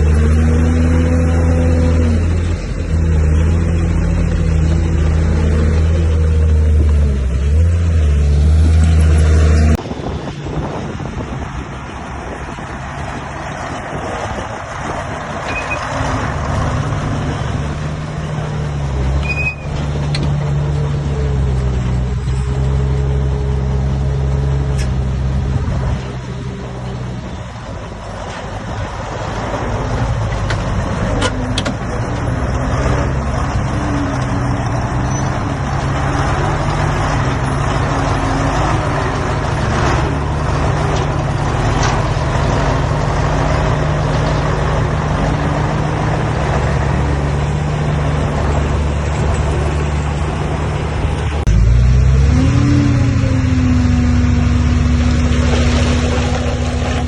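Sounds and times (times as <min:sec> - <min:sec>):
heavy diesel machinery working: 0:00.0 - 0:57.0.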